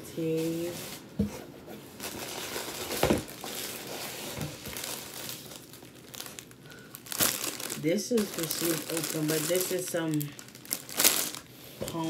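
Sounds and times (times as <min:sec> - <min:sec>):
plastic packaging crinkling: 0:02.0 - 0:12.0.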